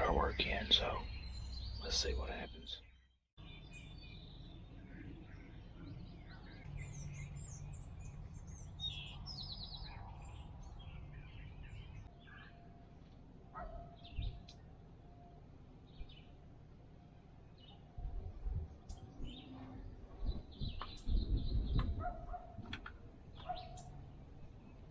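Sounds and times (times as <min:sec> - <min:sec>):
faint low rumble: 0:00.0 - 0:24.9
songbirds chirping and singing: 0:00.0 - 0:24.9.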